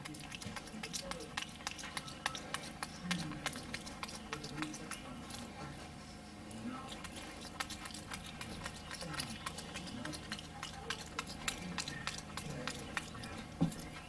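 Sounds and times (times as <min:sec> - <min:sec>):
monkey chewing with lips smacking: 0:00.0 - 0:14.0.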